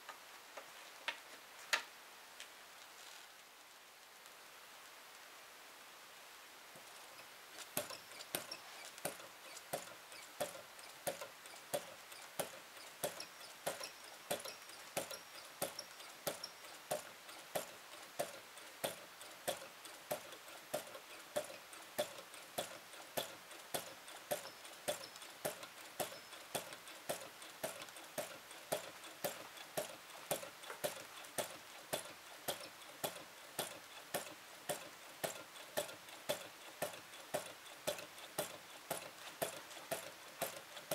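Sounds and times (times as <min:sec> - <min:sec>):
faint steady hiss: 0:00.0 - 0:40.9
model engine clicking: 0:07.2 - 0:40.9.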